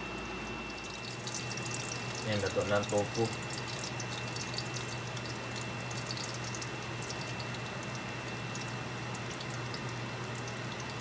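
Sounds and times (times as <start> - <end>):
oil sizzling in a frying pan: 0.7 - 11.0.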